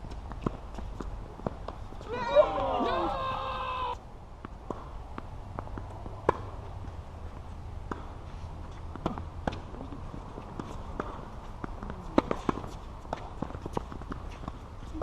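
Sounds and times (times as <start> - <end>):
footsteps on tennis court: 0.1 - 9.7, 10.4 - 15.0.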